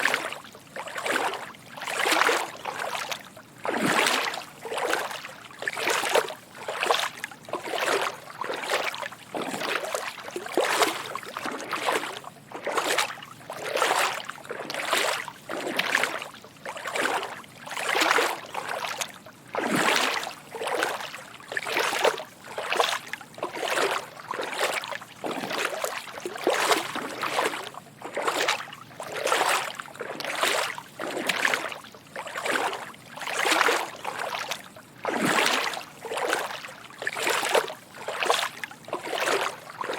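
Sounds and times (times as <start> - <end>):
footsteps wading through water: 0.0 - 39.9.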